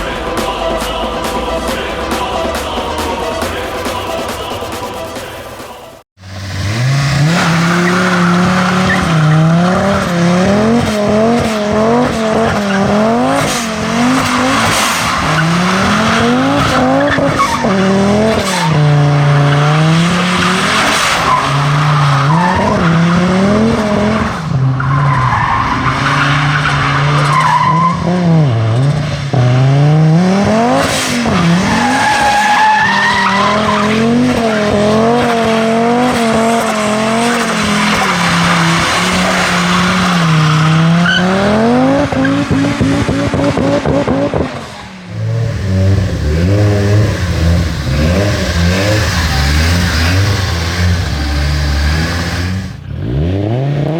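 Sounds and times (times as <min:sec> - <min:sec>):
turbocharged car engine revving: 0:00.0 - 0:53.9
tyres skidding and squealing: 0:00.0 - 0:53.9.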